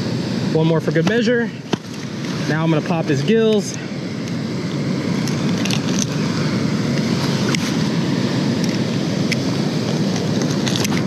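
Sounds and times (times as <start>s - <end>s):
ocean surf: 0.0s - 11.0s
wind on microphone: 1.2s - 11.0s.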